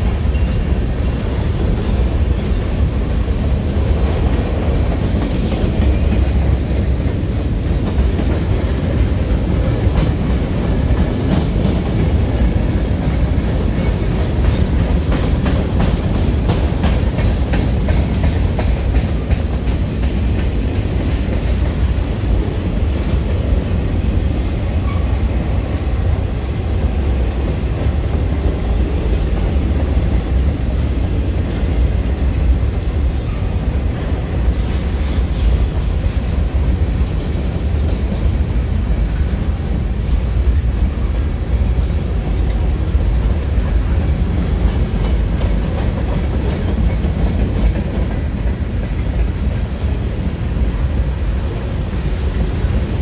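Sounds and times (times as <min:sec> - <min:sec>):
freight train rumbling past: 0:00.0 - 0:53.0
wheels clicking over rail joints: 0:00.0 - 0:53.0.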